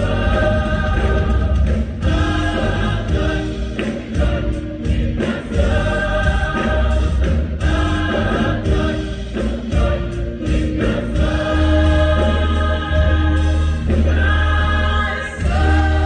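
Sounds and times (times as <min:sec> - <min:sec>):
choir singing: 0:00.0 - 0:16.0
steady bass: 0:00.0 - 0:16.0.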